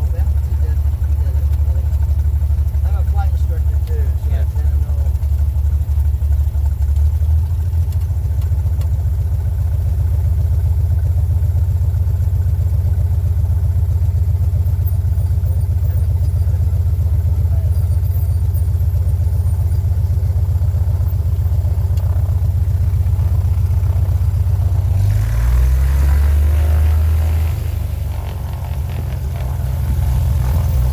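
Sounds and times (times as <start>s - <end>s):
airplane engine droning: 0.0s - 8.8s, 10.3s - 30.9s
wide rumble: 0.0s - 30.9s.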